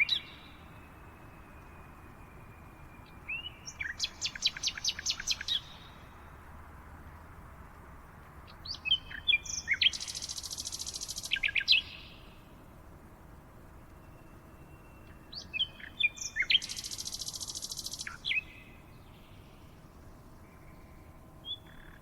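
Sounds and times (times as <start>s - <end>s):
faint steady hiss: 0.0s - 22.0s
songbird singing: 0.0s - 22.0s.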